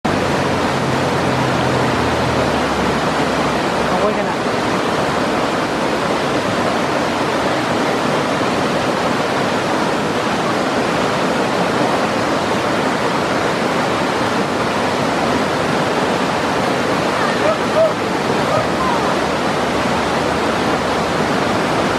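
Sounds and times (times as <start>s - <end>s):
river rapids rushing: 0.0s - 21.9s.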